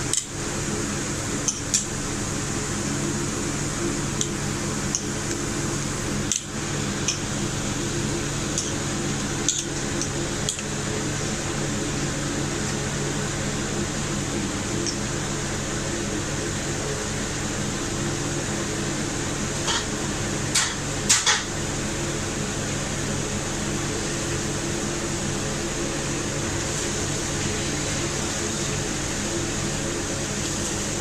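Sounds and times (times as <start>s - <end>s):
mechanical motor hum: 0.0s - 31.0s.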